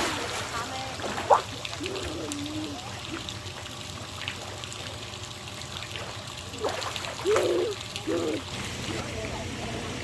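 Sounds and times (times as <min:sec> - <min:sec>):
water trickling and dripping: 0:00.6 - 0:09.3.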